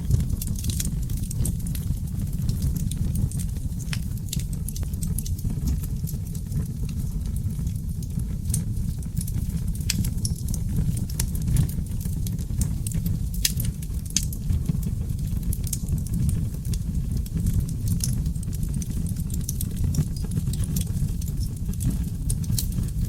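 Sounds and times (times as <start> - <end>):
logs burning in a fireplace: 0.0 - 23.0.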